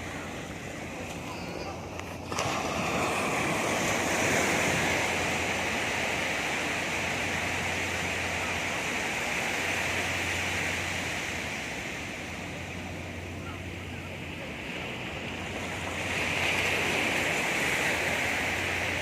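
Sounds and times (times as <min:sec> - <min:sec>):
wave breaking and washing: 0:00.0 - 0:19.0.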